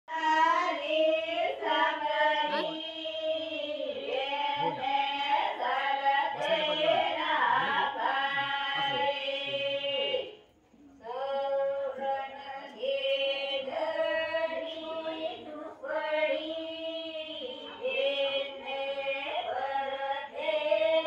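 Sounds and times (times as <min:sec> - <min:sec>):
women singing unaccompanied: 0:00.1 - 0:21.0.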